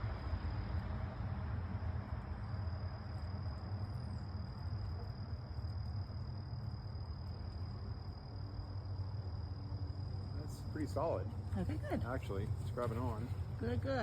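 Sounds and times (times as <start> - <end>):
low background rumble: 0.0 - 14.0
high-pitched insect trill: 0.2 - 14.0.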